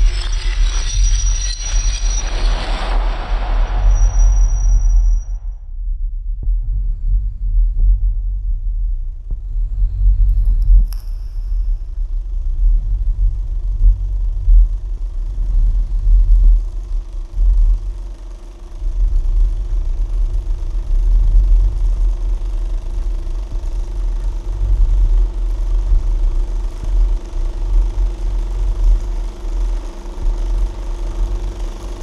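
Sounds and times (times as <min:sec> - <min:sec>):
faint steady hum: 0:00.0 - 0:32.0
loud uneven low rumble: 0:00.0 - 0:32.0.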